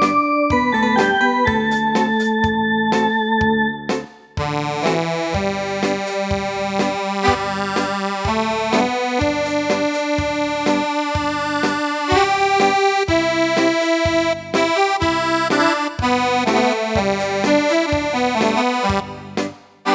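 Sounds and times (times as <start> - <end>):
bass and drum beat: 0.0 - 19.9
electronic keyboard melody: 0.0 - 19.9.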